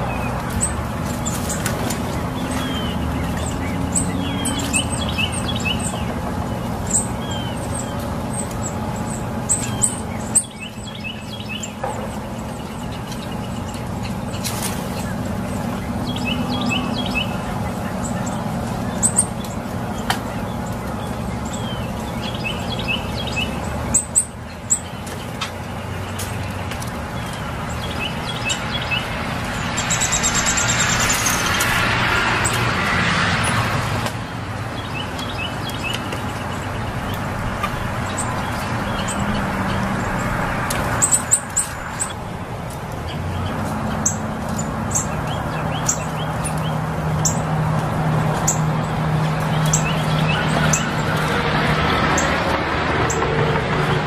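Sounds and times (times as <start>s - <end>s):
low hum of traffic: 0.0s - 54.0s
small birds chirping: 0.0s - 54.0s.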